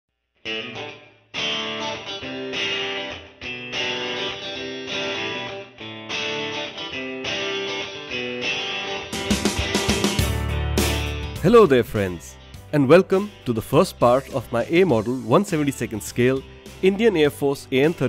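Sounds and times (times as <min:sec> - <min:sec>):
strummed guitar chords: 0:00.4 - 0:18.0.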